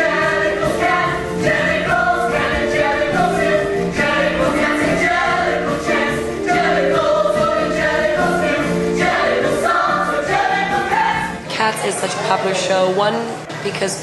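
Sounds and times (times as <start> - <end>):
instrumental accompaniment: 0.0 - 11.6
chorus singing show tune: 0.0 - 12.7.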